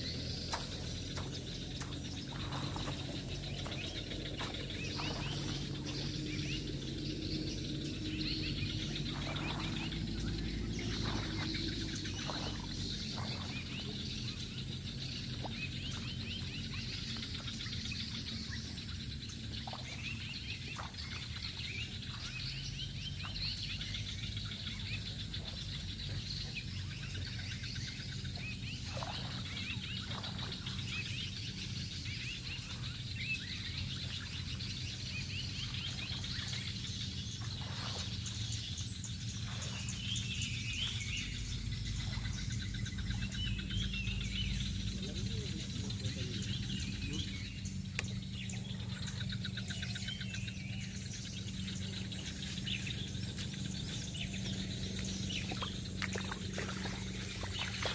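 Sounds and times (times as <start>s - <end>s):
high insect whine: 0.0s - 25.4s, 26.9s - 57.9s
birds chirping: 0.0s - 57.9s
low hum: 0.0s - 57.9s.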